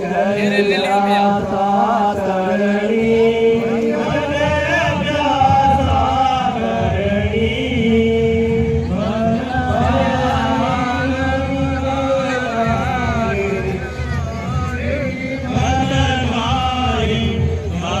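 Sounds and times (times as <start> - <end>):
voices chanting a melody: 0.0 - 18.0.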